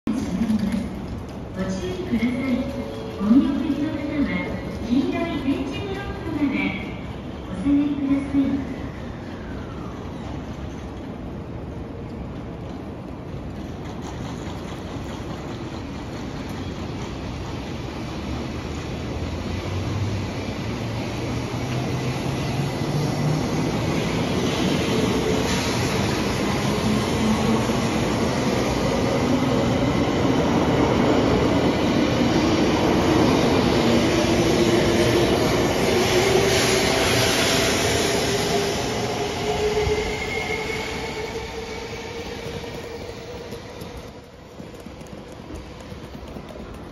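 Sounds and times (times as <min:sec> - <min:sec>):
wheel and rail noise: 0:00.1 - 0:07.6, 0:09.0 - 0:46.9.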